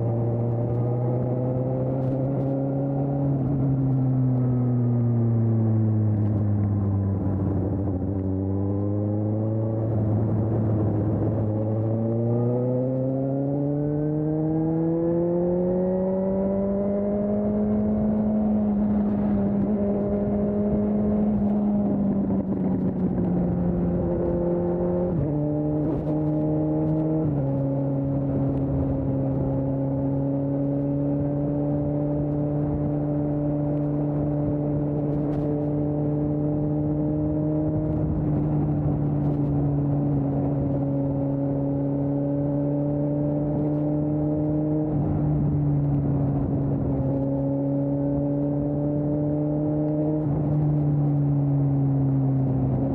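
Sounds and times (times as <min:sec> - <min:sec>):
motorcycle engine revving: 0:00.0 - 0:52.9
wind and road noise: 0:00.0 - 0:52.9.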